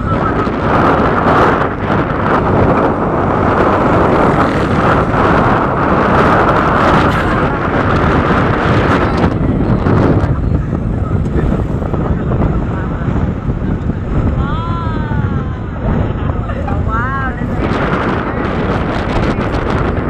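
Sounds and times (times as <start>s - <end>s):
vehicle engine and road noise: 0.0s - 20.0s
wind rushing over microphone: 0.0s - 20.0s.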